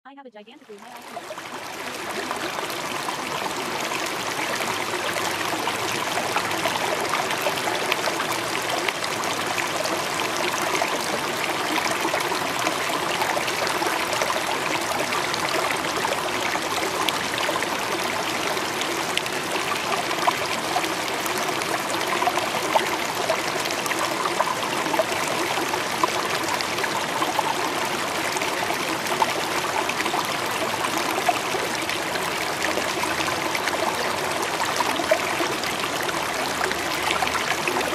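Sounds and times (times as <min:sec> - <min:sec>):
stream trickling: 0:00.4 - 0:37.9
small water splashes: 0:00.6 - 0:37.9.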